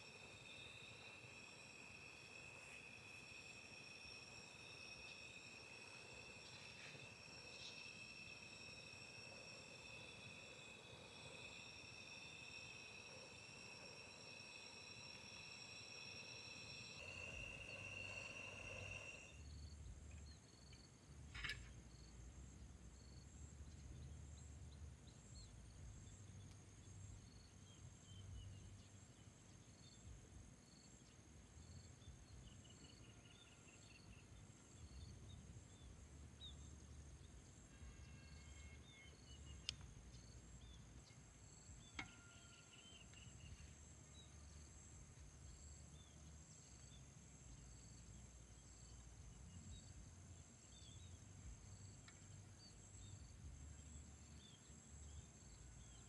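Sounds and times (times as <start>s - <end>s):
crickets trilling: 0.0s - 22.3s, 22.9s - 56.0s.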